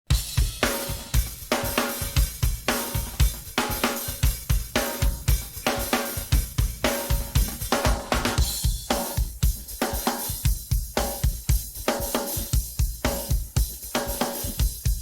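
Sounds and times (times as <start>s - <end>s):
drum kit playing a groove: 0.0s - 15.0s.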